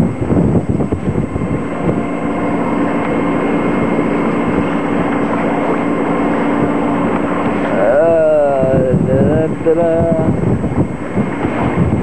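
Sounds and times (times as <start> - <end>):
boat diesel engine droning: 0.0 - 12.0
waves rushing past hull: 0.0 - 12.0
wind buffeting microphone: 0.0 - 12.0.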